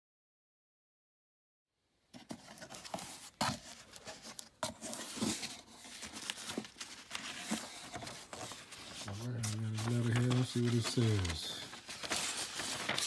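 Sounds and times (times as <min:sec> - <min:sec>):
packing paper crinkling: 0:02.3 - 0:13.0.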